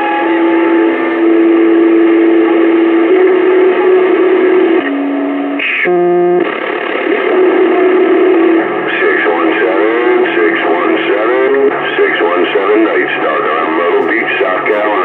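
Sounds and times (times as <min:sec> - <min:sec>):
heterodyne tones: 0:00.0 - 0:15.0
radio static: 0:00.0 - 0:15.0.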